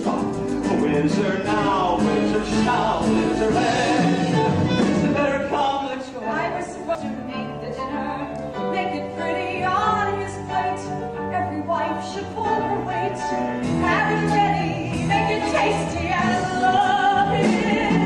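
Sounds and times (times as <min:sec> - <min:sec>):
pit orchestra playing: 0:00.0 - 0:18.0.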